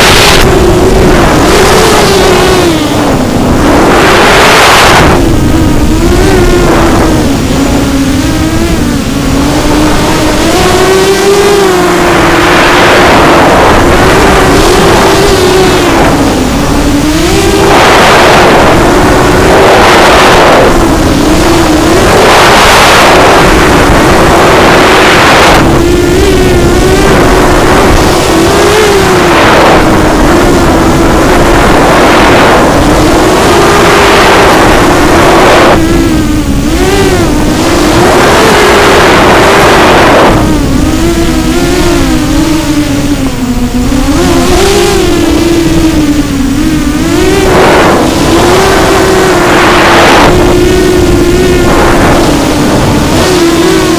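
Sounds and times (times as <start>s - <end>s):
drone motors and propellers whining: 0.0s - 53.9s.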